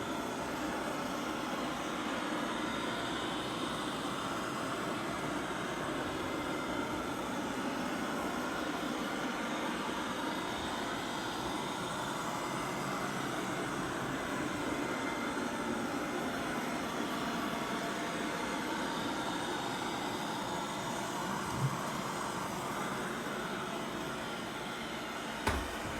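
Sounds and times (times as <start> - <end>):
robot vacuum cleaner running: 2.0 - 25.9.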